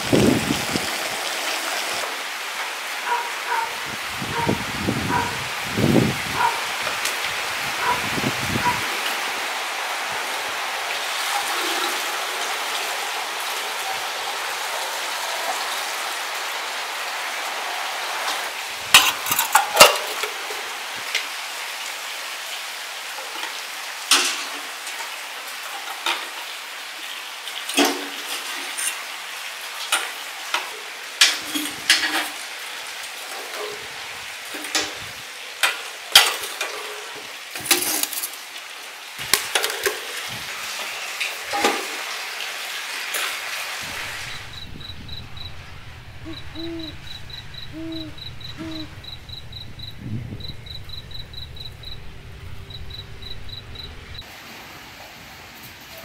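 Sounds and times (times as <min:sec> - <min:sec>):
steady hiss: 0:03.8 - 0:56.0.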